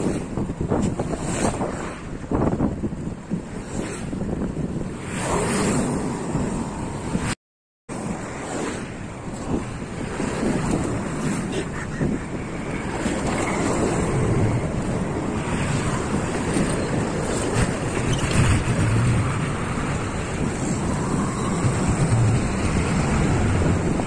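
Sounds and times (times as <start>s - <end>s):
wind buffeting microphone: 0.0s - 7.4s, 8.0s - 24.0s.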